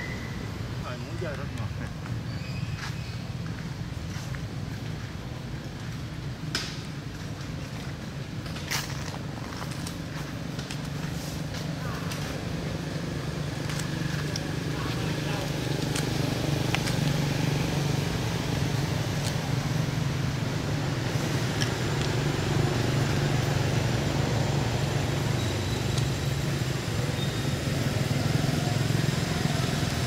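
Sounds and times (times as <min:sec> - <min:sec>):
motorbike traffic engine hum: 0:00.0 - 0:30.0.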